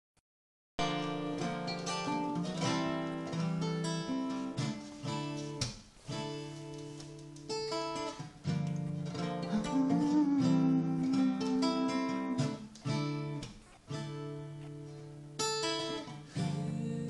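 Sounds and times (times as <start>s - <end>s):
acoustic guitar music: 0.8s - 17.0s.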